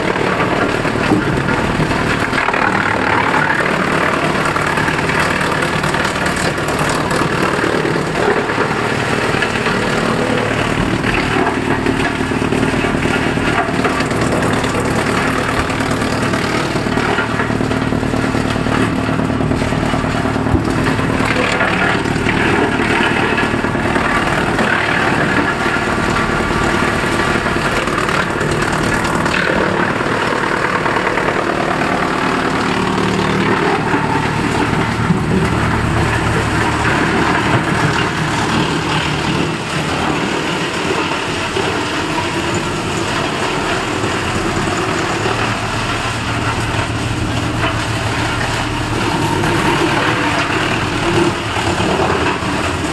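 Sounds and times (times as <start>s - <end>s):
wood chipper running: 0.0s - 52.9s.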